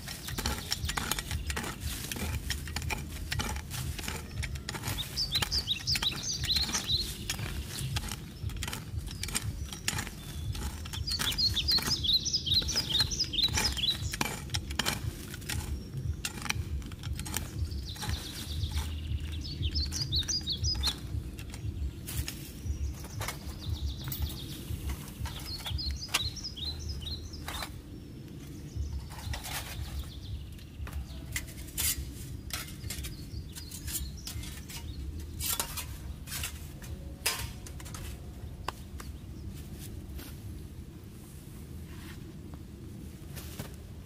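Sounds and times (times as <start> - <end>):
songbird chirping: 0.0 - 44.0.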